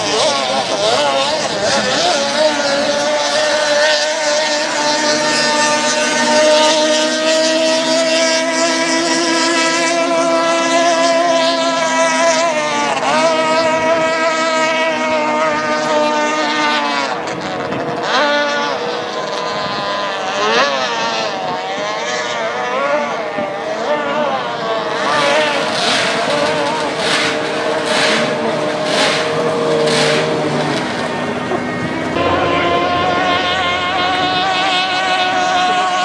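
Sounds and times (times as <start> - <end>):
motorboat engine buzzing: 0.0 - 36.0.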